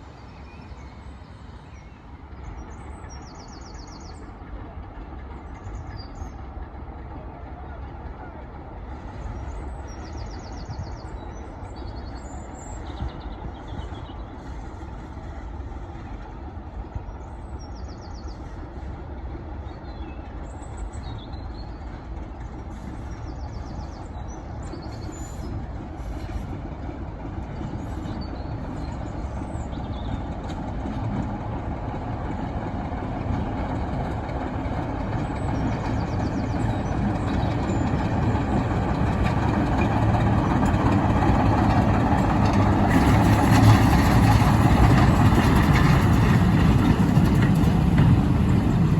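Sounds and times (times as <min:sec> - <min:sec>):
train engine approaching: 0:00.0 - 0:48.9.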